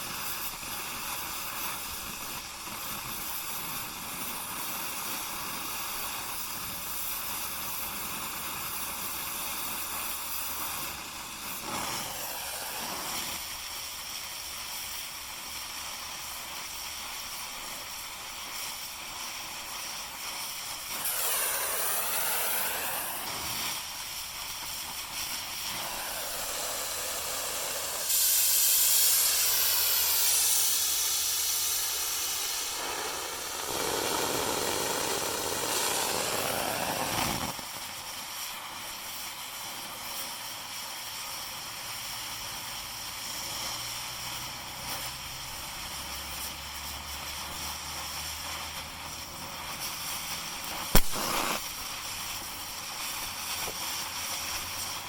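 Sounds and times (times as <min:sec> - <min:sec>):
cutting torch hissing: 0:00.0 - 0:55.0.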